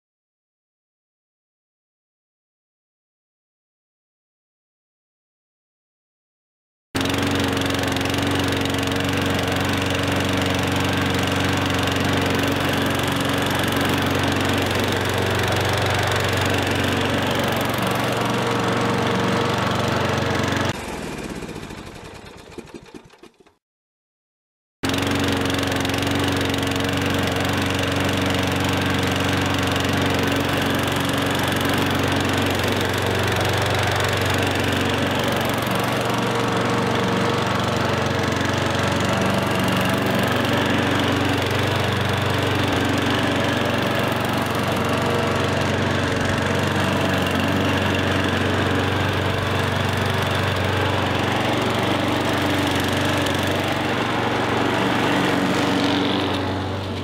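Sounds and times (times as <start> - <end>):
small lawn mower engine running: 7.0 - 23.6, 24.8 - 57.0.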